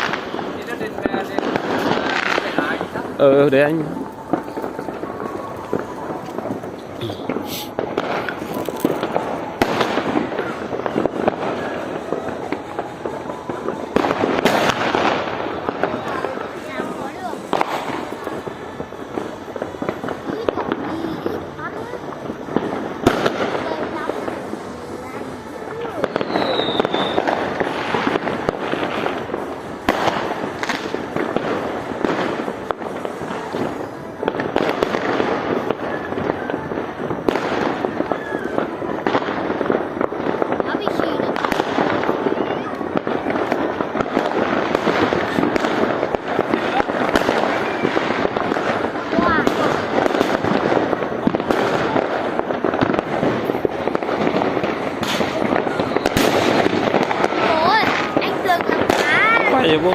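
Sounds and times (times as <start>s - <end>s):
fireworks crackling and banging: 0.0s - 59.9s
loud firework bangs: 0.0s - 59.9s.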